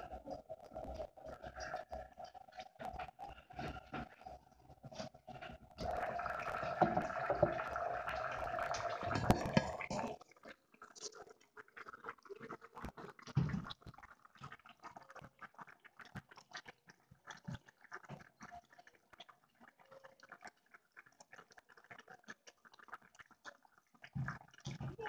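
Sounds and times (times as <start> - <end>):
pot simmering on a gas stove: 0.0 - 25.0.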